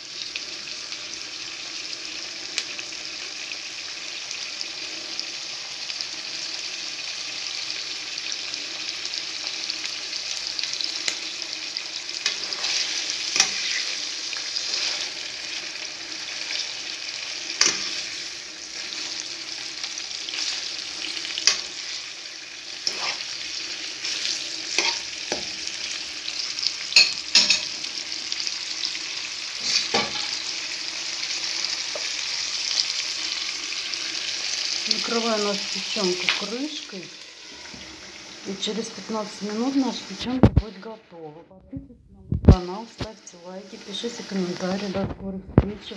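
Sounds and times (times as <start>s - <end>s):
liver and onions sizzling in a pan: 0.0s - 41.3s, 42.4s - 45.9s.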